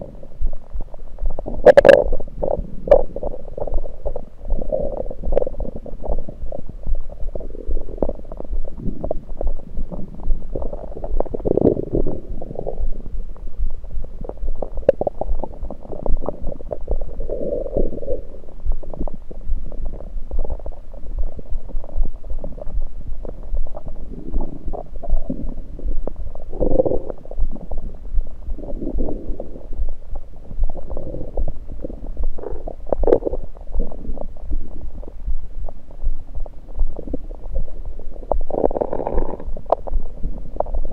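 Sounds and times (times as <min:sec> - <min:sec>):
low hum: 0:00.0 - 0:40.9
stomach gurgling: 0:00.0 - 0:40.9.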